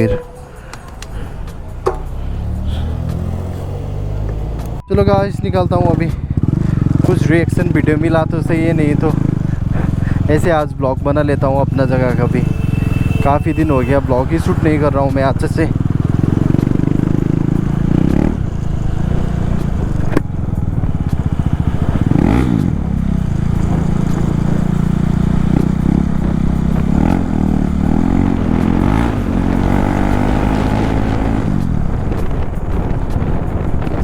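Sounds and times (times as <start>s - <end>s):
motorcycle engine throttle blips: 0.0s - 34.0s.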